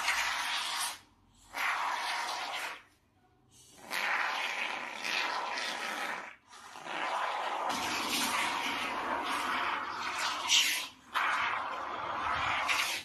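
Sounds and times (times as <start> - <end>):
aerosol foam spraying: 0.0 - 2.9, 3.7 - 13.0.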